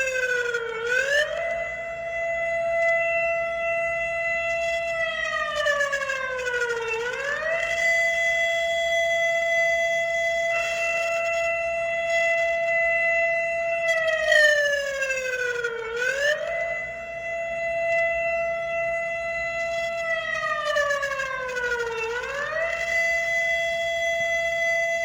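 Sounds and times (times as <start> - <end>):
emergency alert siren tone: 0.0 - 25.0.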